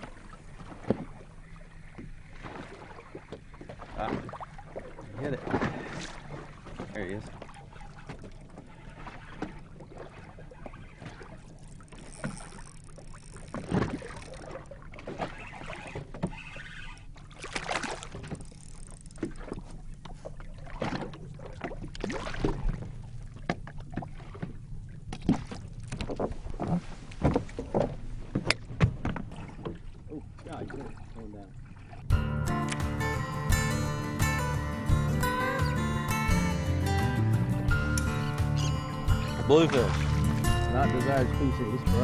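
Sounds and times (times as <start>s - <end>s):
water lapping against boat hull: 0.0s - 37.0s, 37.7s - 42.0s.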